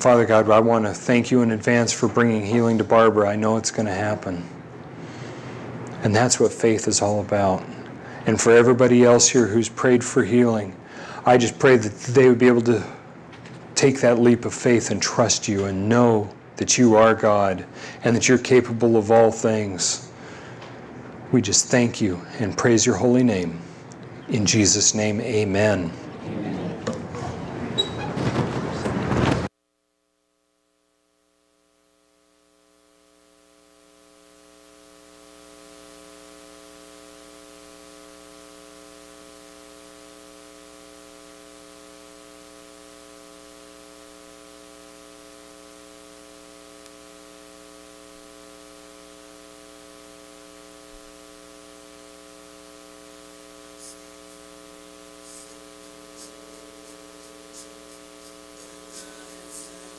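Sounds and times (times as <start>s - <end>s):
electrical mains hum with hiss: 0.0s - 59.9s.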